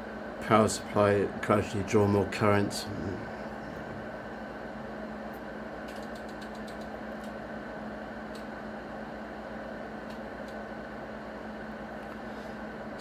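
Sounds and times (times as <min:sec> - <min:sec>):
amplifier whir and hum: 0:00.0 - 0:13.0.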